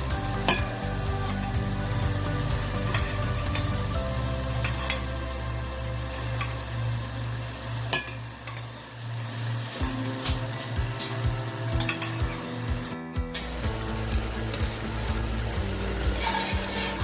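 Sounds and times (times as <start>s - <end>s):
background music: 0.0s - 17.0s
food sizzling in a pot: 0.0s - 17.0s.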